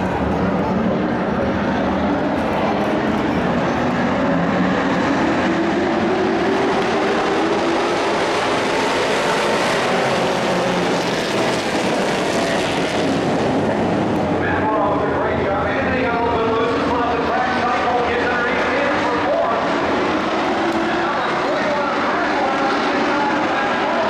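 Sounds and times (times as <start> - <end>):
race truck engines revving: 0.0 - 24.0.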